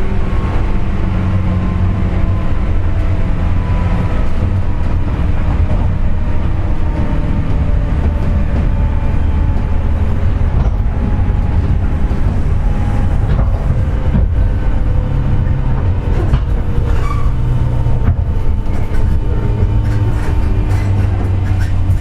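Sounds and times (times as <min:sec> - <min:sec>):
train motor whining: 0:00.0 - 0:22.0
train wheels rumbling on rails: 0:00.0 - 0:22.0.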